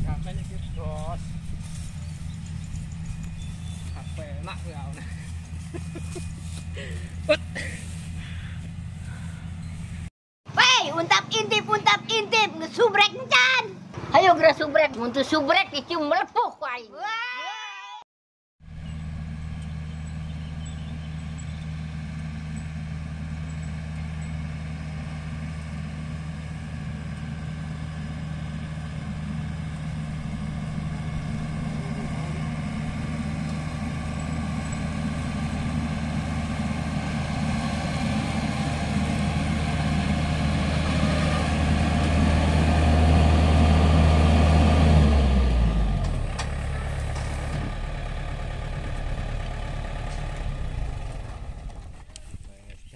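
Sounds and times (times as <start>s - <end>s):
combine harvester diesel engine: 0.0s - 14.3s, 18.6s - 52.9s.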